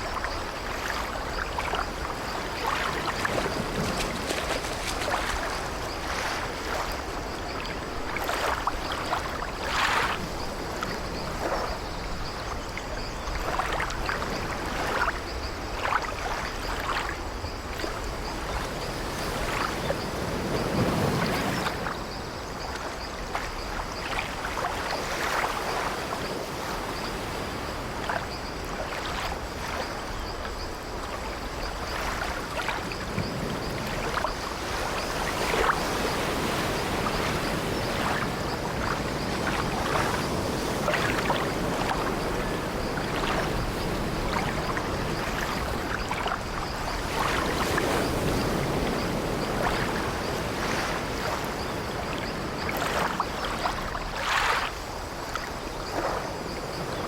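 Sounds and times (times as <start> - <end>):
sea waves splashing: 0.0 - 57.0.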